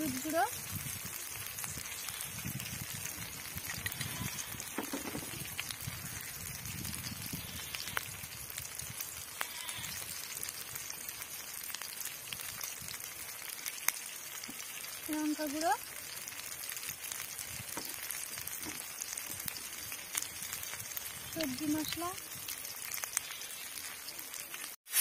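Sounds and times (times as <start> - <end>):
masala sizzling in wok: 0.0 - 25.0.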